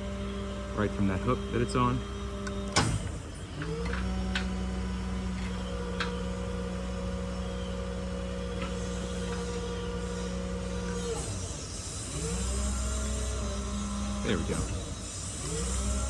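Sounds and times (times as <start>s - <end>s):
hydraulic crane hum: 0.0s - 16.0s.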